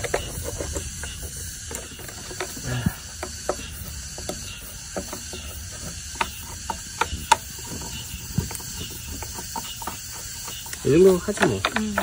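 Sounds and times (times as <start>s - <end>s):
brush scratching plastic: 0.0s - 12.0s.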